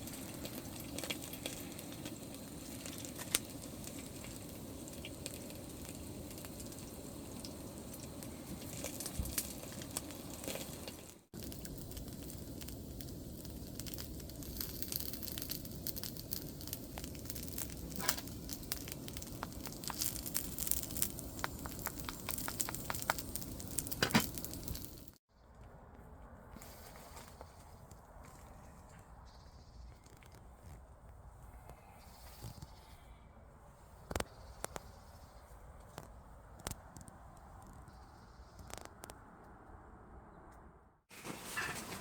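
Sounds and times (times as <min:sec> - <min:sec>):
wood fire crackling: 0:00.0 - 0:32.9, 0:33.6 - 0:39.2, 0:41.1 - 0:42.0
fire crunch: 0:00.0 - 0:39.5, 0:41.1 - 0:42.0.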